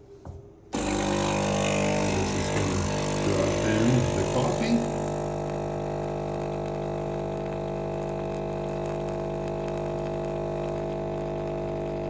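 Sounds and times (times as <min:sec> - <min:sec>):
coffee machine pump humming: 0:00.0 - 0:12.0.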